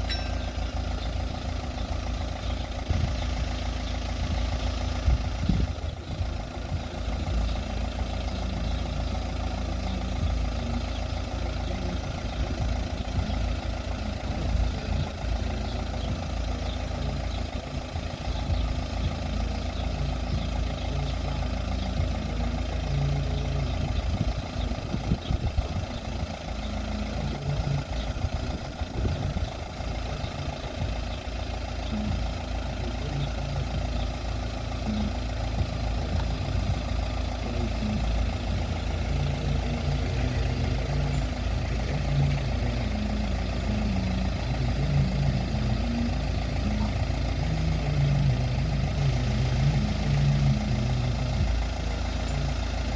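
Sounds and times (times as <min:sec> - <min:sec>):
vehicle engines idling: 0:00.0 - 0:52.9.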